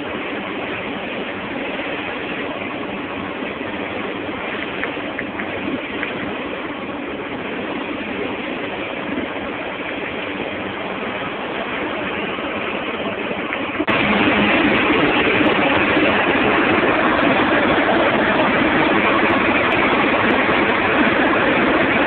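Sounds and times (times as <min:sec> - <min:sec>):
boat engine drone: 0:00.0 - 0:22.0
wake churning along hull: 0:00.0 - 0:22.0
water rushing: 0:00.0 - 0:22.0
wind: 0:00.0 - 0:22.0.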